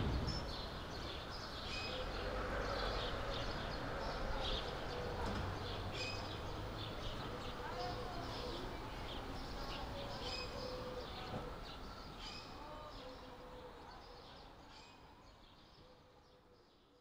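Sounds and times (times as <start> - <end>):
birds chirping: 0.0 - 16.4
steady outdoor hiss: 0.0 - 17.0.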